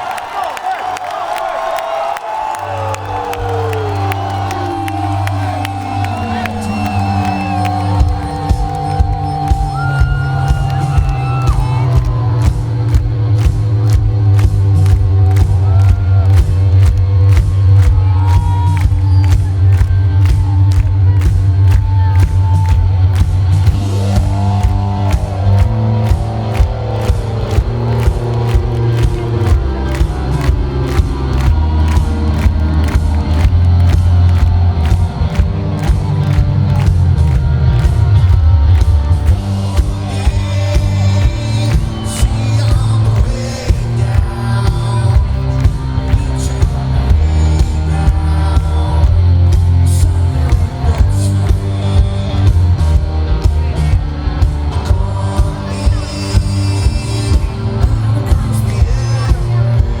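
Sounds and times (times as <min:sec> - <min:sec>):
live rock band playing: 0:03.9 - 1:00.0
driving drum beat: 0:04.1 - 1:00.0.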